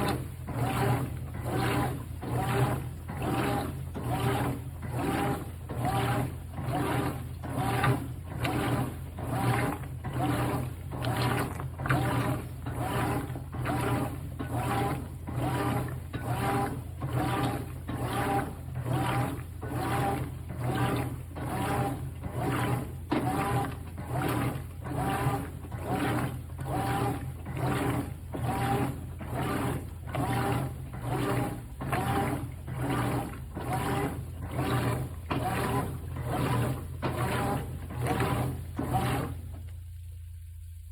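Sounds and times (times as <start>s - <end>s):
washing machine swishing: 0.0s - 39.9s
motor hum: 0.0s - 40.9s.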